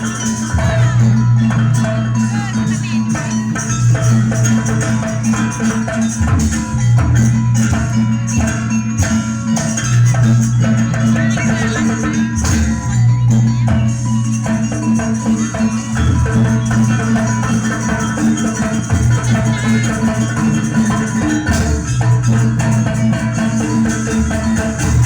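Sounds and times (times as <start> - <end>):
drums: 0.0 - 25.0
metallophones playing melody: 0.0 - 25.0
rattling percussion: 0.0 - 25.0.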